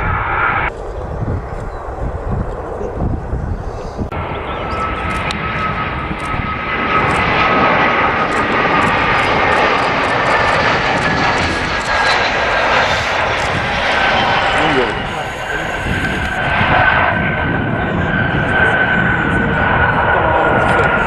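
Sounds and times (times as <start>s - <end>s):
jet engines rushing and whining: 0.0s - 21.0s.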